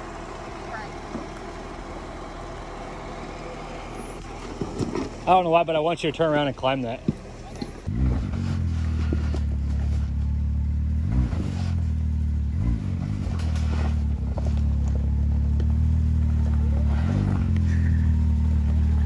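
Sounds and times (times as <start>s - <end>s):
engine throttle blips: 0.0s - 19.0s
vehicle engine idling: 0.0s - 19.0s.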